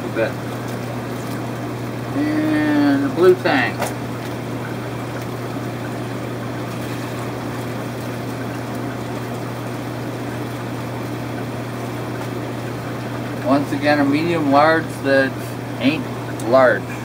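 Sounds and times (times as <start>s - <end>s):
aquarium pumps humming: 0.0s - 17.0s
running water trickling: 0.0s - 17.0s.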